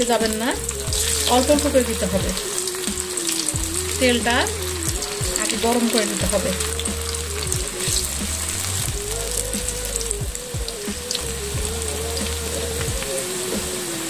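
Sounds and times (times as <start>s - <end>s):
background music with pulsing bass: 0.0s - 14.0s
oil sizzling in a wok: 0.0s - 14.0s.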